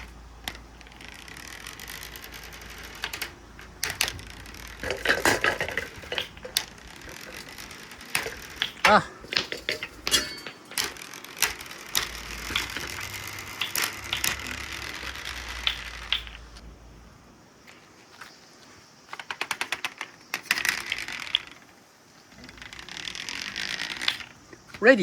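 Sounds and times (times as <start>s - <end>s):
marbles clicking: 0.0s - 16.6s, 19.1s - 24.8s
marbles rolling on steel ramps: 0.0s - 16.6s, 19.1s - 25.0s.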